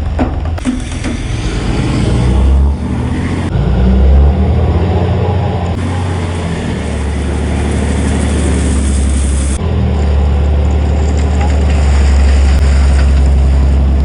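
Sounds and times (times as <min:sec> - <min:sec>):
pickup truck engine rumbling: 0:00.0 - 0:14.0.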